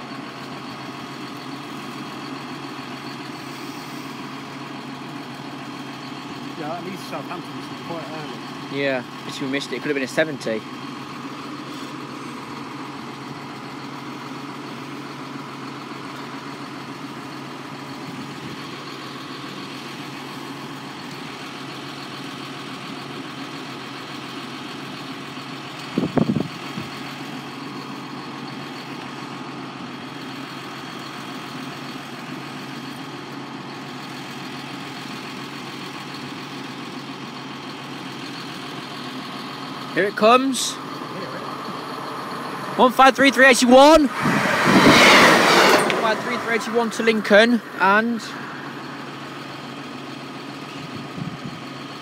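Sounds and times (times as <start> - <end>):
tractor engine idling: 0.0 - 52.0.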